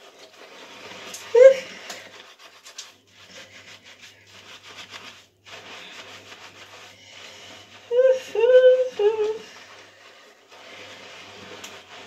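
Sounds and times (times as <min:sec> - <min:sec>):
hands scrubbing wet hair: 0:00.0 - 0:12.0.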